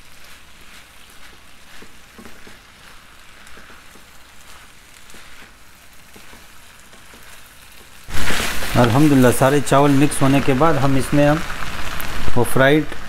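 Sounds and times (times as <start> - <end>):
wooden spatula scraping a pan: 0.0 - 12.2
food sizzling in a frying pan: 0.0 - 13.0.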